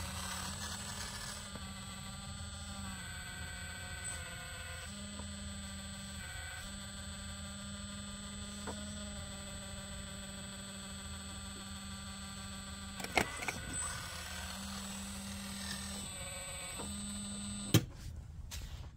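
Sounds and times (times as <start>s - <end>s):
toy excavator whining: 0.0s - 17.8s.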